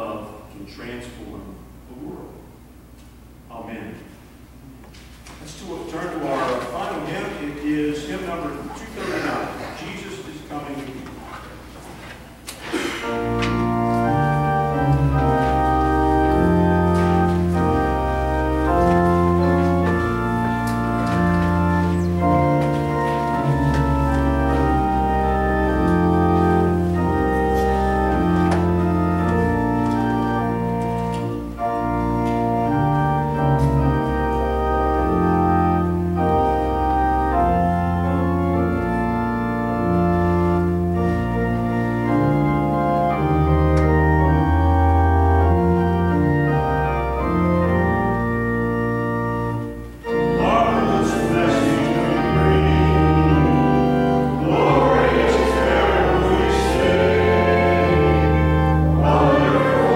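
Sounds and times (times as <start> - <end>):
church organ playing hymn chords: 5.4 - 59.9.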